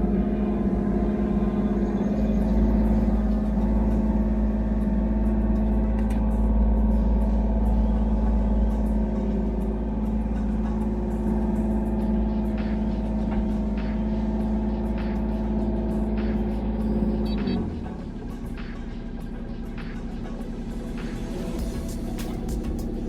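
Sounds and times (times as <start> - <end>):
mini excavator diesel engine running: 0.0 - 23.0
steady pitched whine: 0.0 - 23.0.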